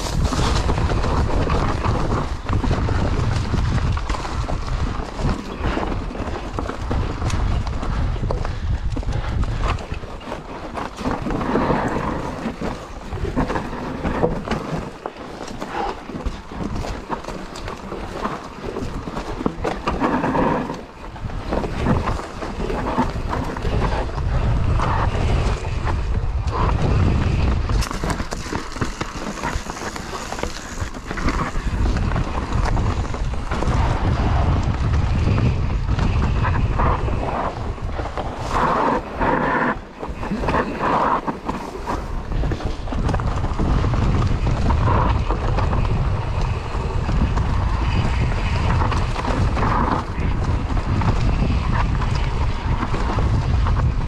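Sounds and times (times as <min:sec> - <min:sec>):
bike tyres rolling over dirt: 0:00.0 - 0:54.0
wind buffeting microphone: 0:00.0 - 0:54.0.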